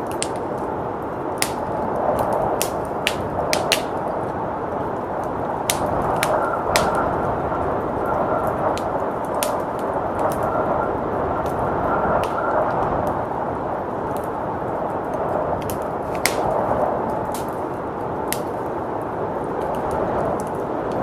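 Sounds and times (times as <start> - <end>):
rushing blizzard wind: 0.0 - 21.0
wood fire crackling: 0.0 - 21.0.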